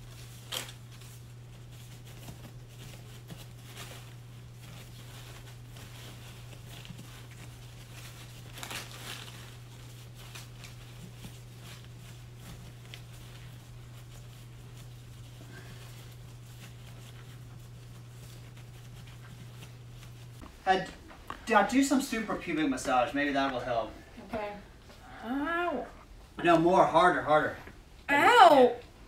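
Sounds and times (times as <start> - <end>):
gauze rustling and crinkling: 0.0 - 25.0
steady low hum: 0.0 - 29.0.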